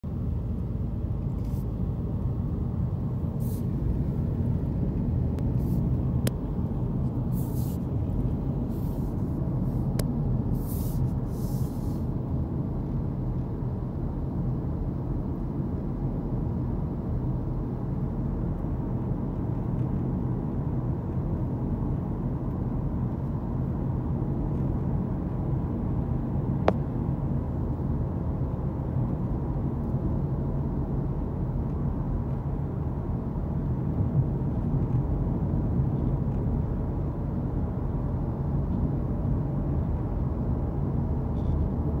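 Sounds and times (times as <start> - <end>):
car road and engine noise: 0.0 - 42.0.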